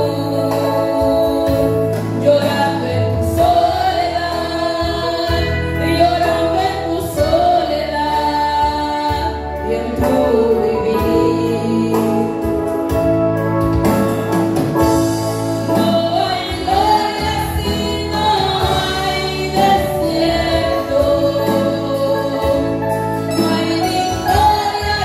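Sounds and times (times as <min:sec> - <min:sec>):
woman singing into microphone: 0:00.0 - 0:13.1, 0:15.6 - 0:25.0
acoustic guitars: 0:00.0 - 0:25.0
keyboard chords: 0:00.0 - 0:25.0.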